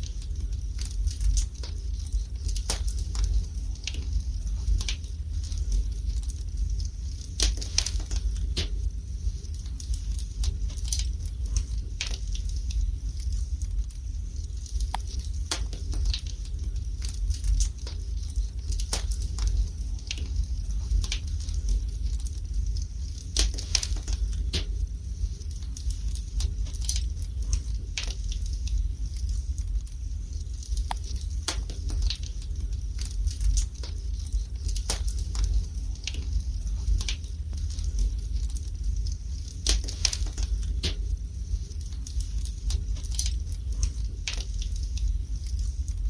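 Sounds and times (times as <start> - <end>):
low fire rumble: 0.0 - 46.0
wood fire crackling and popping: 0.0 - 46.0.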